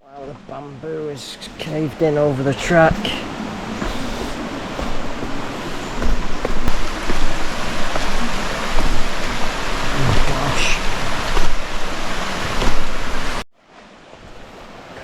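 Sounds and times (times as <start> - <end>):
rushing stream: 0.0 - 15.0.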